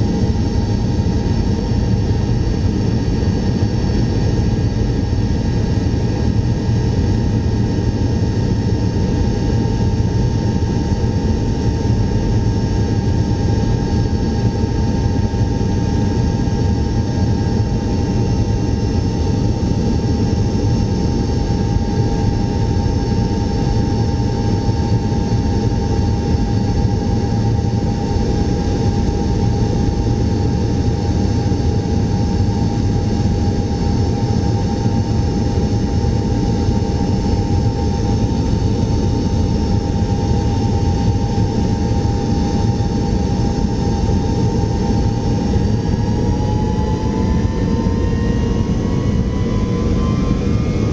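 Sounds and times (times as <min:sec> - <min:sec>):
jet engines rumbling and whining: 0:00.0 - 0:50.9.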